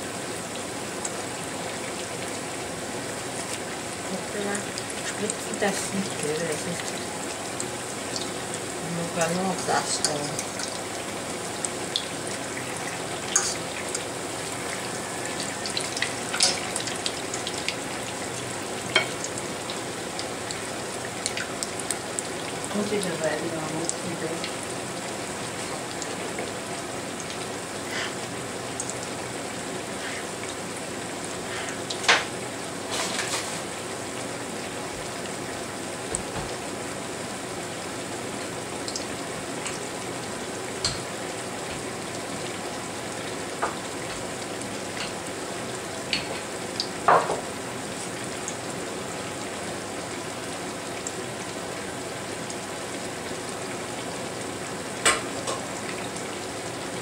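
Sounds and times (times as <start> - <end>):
food frying in hot fat: 0.0 - 57.0.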